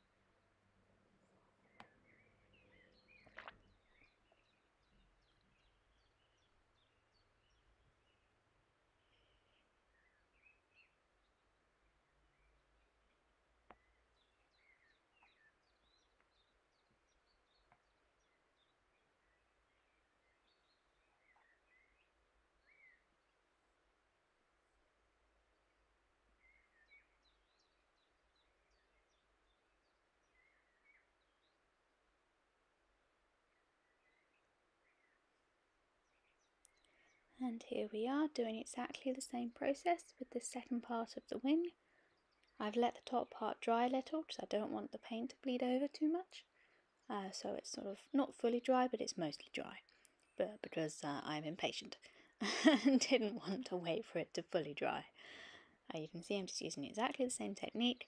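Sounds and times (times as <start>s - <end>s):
faint bird chirping: 0.0s - 58.0s.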